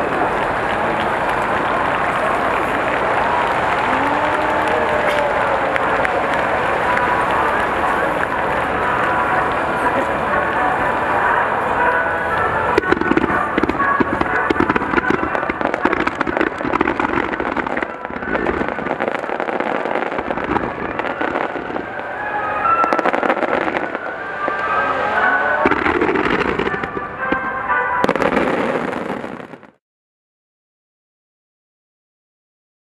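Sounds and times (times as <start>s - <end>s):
firework bursts and crackle: 0.0s - 29.8s.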